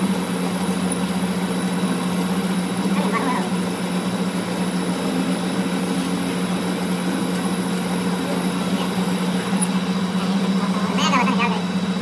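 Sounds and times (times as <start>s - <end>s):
machine humming and whirring: 0.0s - 12.0s.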